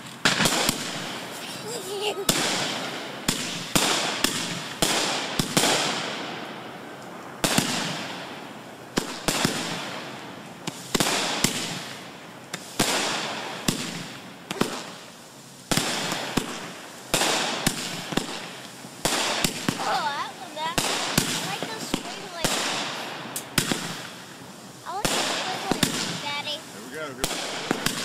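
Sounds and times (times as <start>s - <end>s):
fireworks bangs: 0.0s - 28.0s
fireworks hiss: 0.0s - 28.0s.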